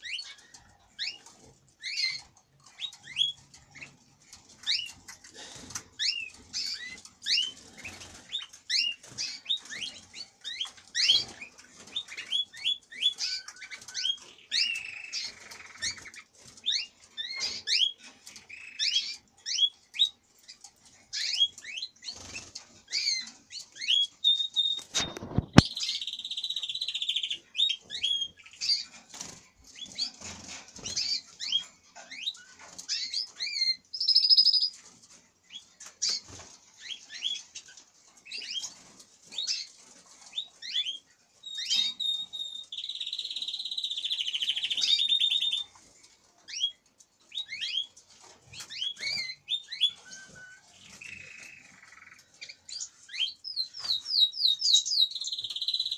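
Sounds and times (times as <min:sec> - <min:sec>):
canaries chirping and whistling: 0:00.0 - 0:55.9
canary trills: 0:00.0 - 0:55.9.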